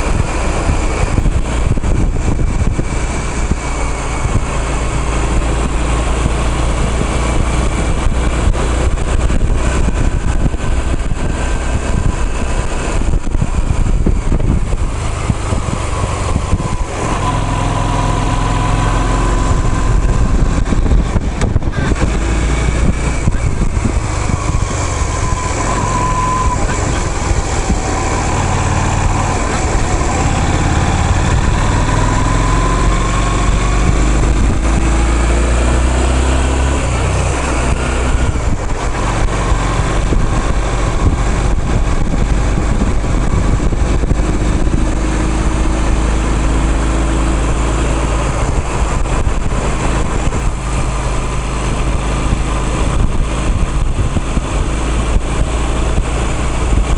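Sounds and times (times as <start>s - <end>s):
low road rumble: 0.0s - 56.9s
vehicle engine running: 0.0s - 56.9s.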